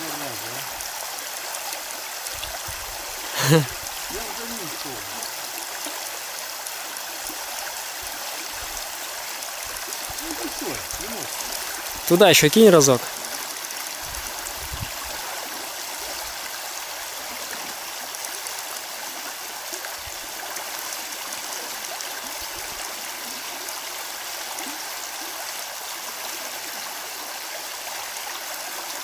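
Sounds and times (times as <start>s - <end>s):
creek running: 0.0s - 29.0s.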